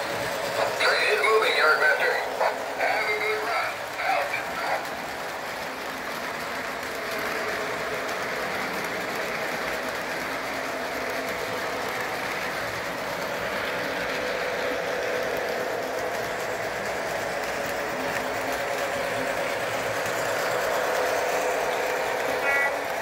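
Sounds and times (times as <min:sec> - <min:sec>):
faint motor hum: 0:00.0 - 0:23.0
model train wheels rattling on rail: 0:00.0 - 0:23.0.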